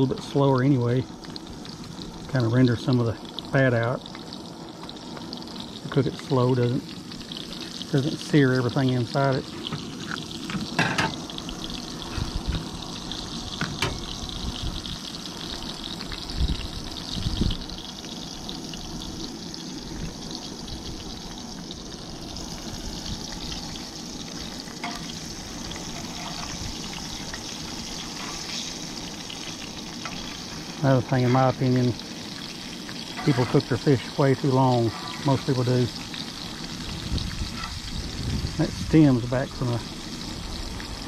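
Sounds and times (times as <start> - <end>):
fish frying in hot oil: 0.0 - 41.0.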